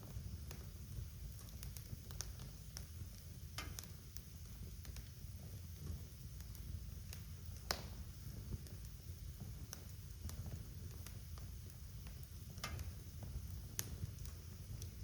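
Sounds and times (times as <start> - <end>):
fire pops and snaps: 0.0 - 15.0
wood fire crackling: 0.0 - 15.0.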